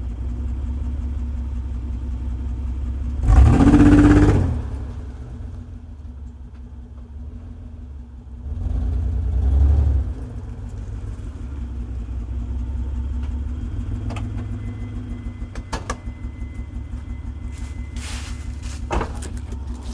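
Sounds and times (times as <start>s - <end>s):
car exhaust idling roughly: 0.0s - 8.7s, 10.4s - 19.9s.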